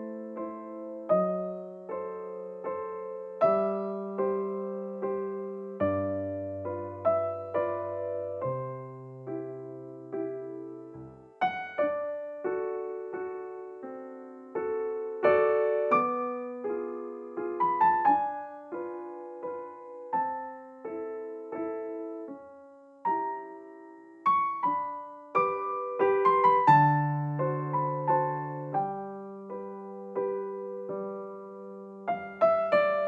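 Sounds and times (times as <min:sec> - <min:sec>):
gentle solo piano chords: 0:00.0 - 0:33.0.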